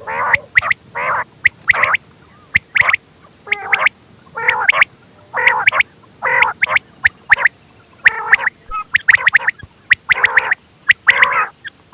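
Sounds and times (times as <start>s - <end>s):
quail calling: 0.0s - 11.9s.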